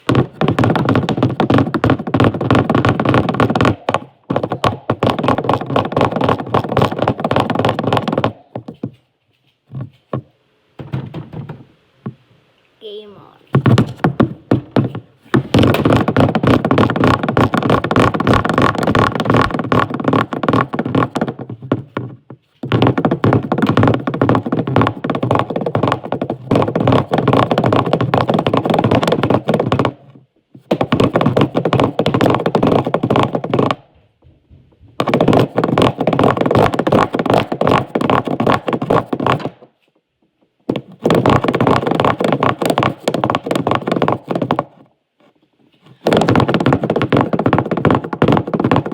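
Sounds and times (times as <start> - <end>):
rapid crackling and knocking: 0.0 - 12.4, 13.5 - 39.9, 40.5 - 44.9, 45.8 - 48.9.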